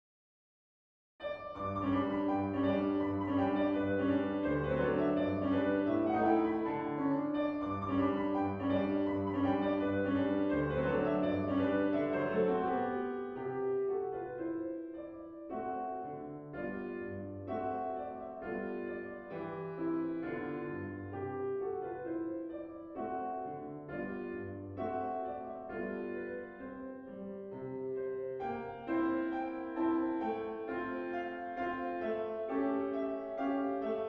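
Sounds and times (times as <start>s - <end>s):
solo piano piece: 1.2s - 34.0s.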